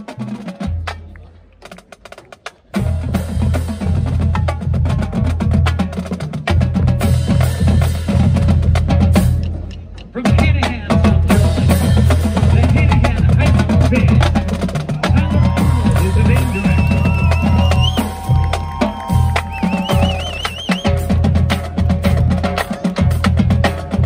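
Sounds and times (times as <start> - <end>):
bass drums: 0.0 - 24.0
marching drumline cadence: 0.0 - 24.0.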